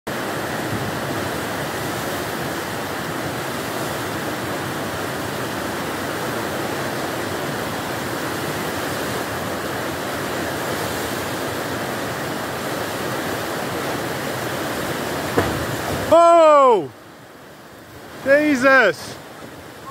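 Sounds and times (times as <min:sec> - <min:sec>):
rushing floodwater: 0:00.1 - 0:19.9.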